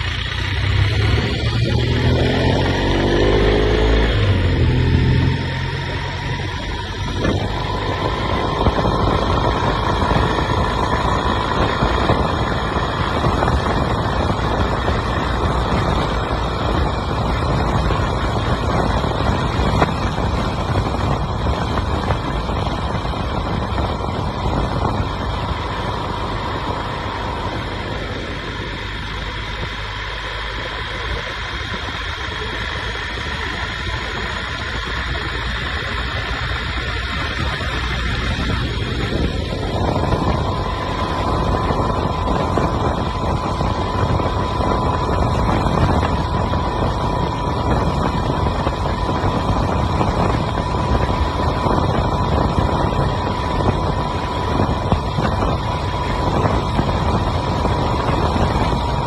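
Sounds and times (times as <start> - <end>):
faint steady whine: 0.0 - 59.0
motorcycle engine and road noise: 0.0 - 59.0
wind rush on microphone: 0.0 - 59.0.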